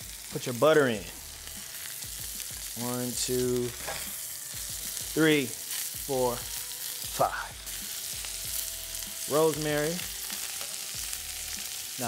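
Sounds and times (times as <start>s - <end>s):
steak sizzling in a pan: 0.0s - 12.0s.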